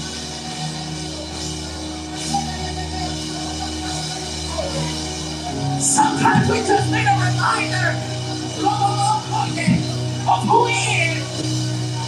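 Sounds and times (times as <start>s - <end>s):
instrumental worship music: 0.0s - 12.0s.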